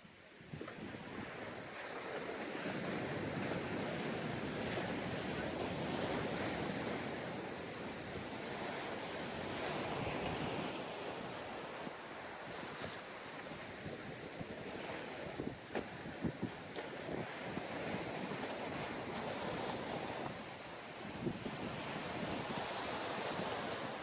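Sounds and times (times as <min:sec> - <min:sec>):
waves breaking on beach: 0:00.0 - 0:24.0.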